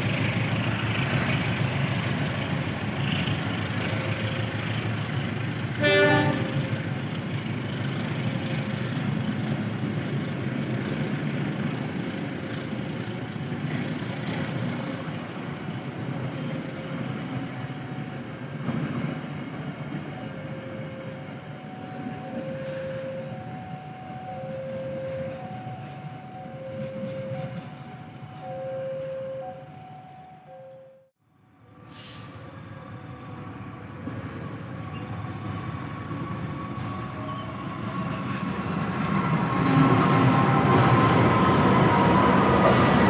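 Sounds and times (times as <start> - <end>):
train rail rumble: 0.0 - 43.0.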